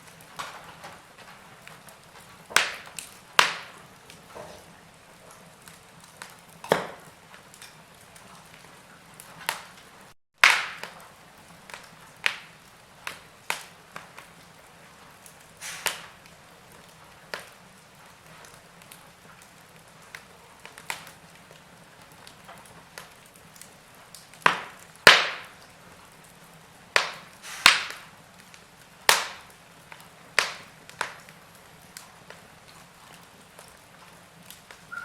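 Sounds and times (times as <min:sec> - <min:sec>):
log fire crackling: 0:00.0 - 0:35.0.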